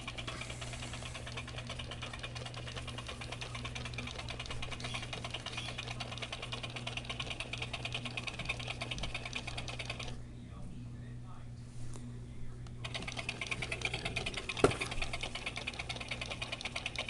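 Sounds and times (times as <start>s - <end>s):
toy mechanism clicking rapidly: 0.0s - 10.2s, 12.8s - 17.0s
low motor hum: 0.0s - 17.0s.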